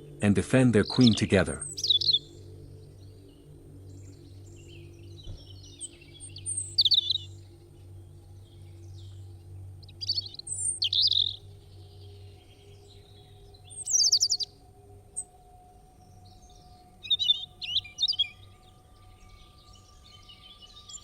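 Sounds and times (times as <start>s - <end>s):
birds chirping: 0.0s - 21.0s
faint low hum: 0.0s - 21.0s.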